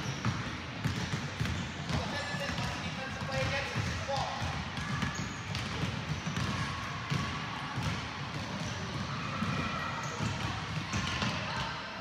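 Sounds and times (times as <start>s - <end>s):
basketballs bouncing on hardwood: 0.0s - 11.7s.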